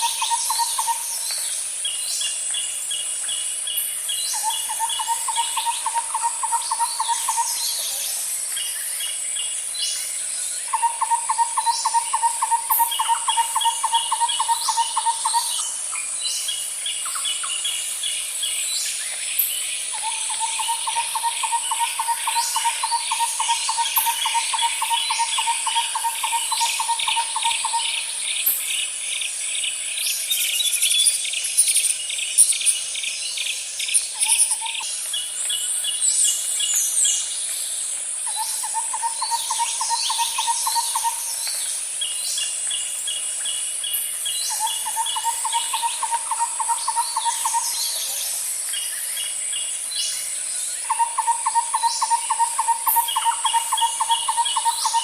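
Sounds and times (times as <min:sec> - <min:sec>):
birds chirping and calling: 0:00.0 - 0:55.0
high-pitched insect drone: 0:00.0 - 0:55.0.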